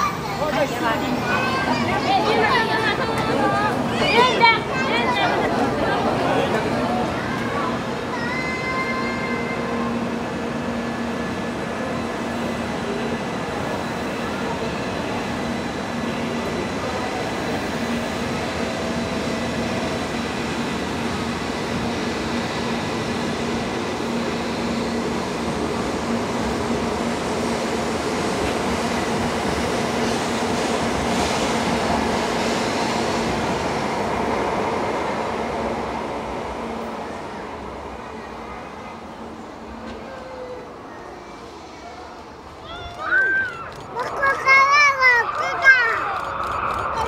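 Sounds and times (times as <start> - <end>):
train wheels rushing on rail: 0.0 - 47.0.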